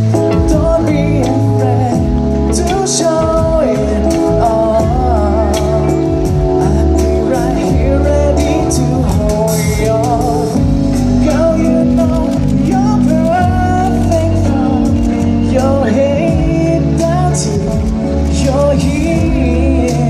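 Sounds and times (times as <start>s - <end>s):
person singing with vibrato: 0.0s - 20.0s
sustained instrumental accompaniment: 0.0s - 20.0s.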